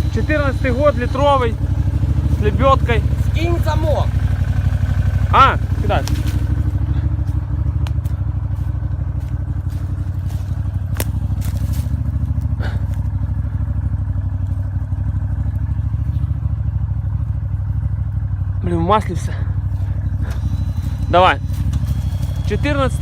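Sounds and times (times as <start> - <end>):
buggy engine idling: 0.0 - 23.0.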